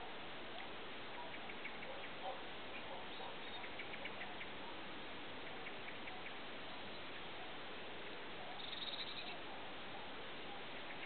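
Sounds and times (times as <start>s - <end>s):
small birds chirping: 0.0s - 11.0s
steady hiss: 0.0s - 11.0s.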